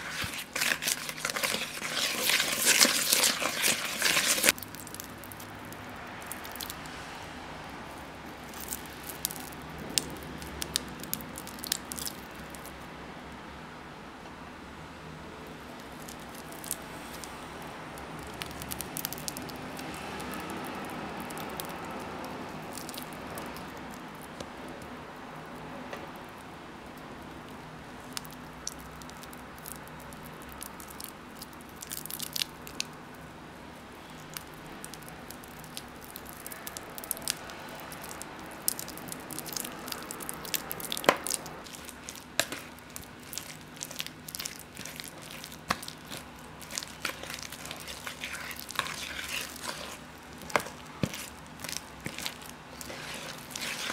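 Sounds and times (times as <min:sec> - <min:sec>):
wet squishing of batter: 0:00.0 - 0:07.1, 0:07.8 - 0:12.8, 0:15.4 - 0:53.9.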